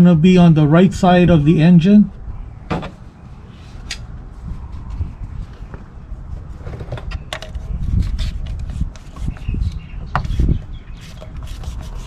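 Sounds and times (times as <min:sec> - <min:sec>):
low rumbling handling noise: 0:00.8 - 0:11.5.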